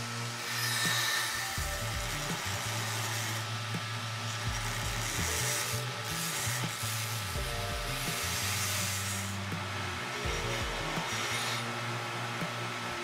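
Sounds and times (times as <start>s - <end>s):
belt grinder grinding steel: 0.0s - 12.9s
background music with bass line: 1.6s - 2.9s, 3.5s - 13.0s.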